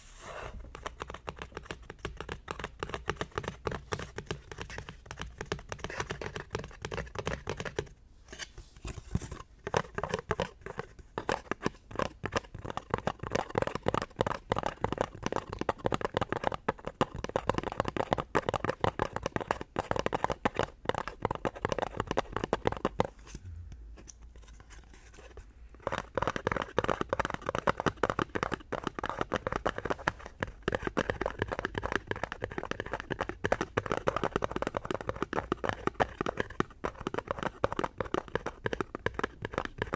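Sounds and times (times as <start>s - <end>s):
fingers tapping on hard object: 0.7s - 7.9s, 9.6s - 23.1s, 25.8s - 39.9s.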